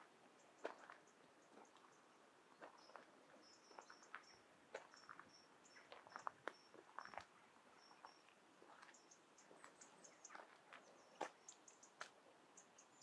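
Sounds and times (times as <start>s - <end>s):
bird chirps and clicks: 2.6s - 13.0s.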